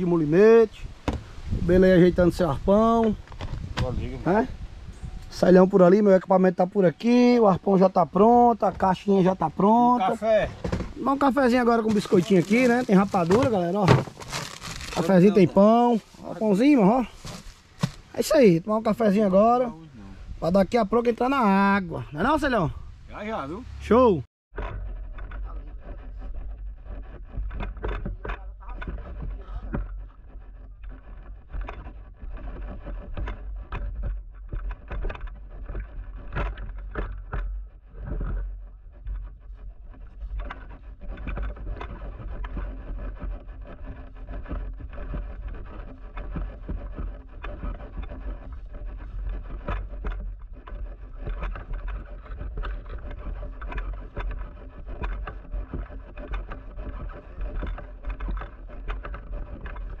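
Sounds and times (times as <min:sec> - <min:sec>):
knocks and rattles: 0:01.0 - 0:06.4, 0:07.0 - 0:19.6, 0:24.5 - 1:00.0.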